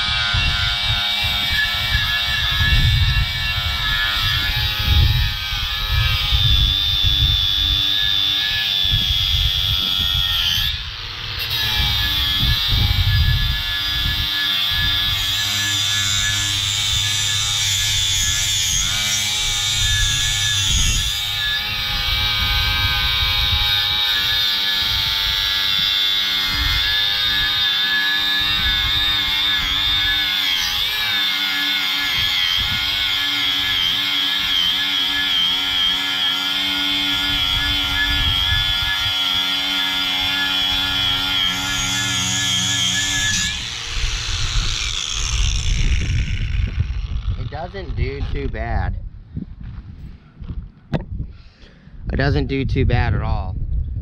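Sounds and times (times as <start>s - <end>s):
wind rumbling on microphone: 0.0s - 31.1s, 31.8s - 34.5s, 36.8s - 54.0s
angle grinder grinding metal: 0.0s - 48.8s.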